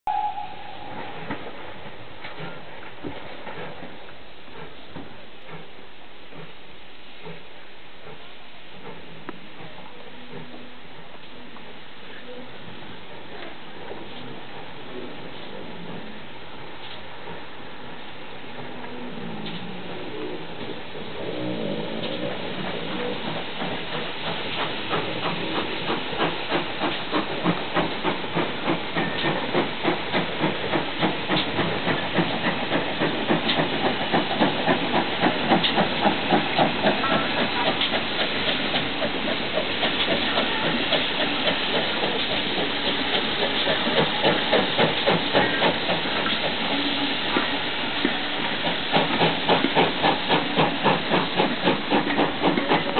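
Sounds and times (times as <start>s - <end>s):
steam locomotive hissing and chuffing: 0.1s - 52.9s.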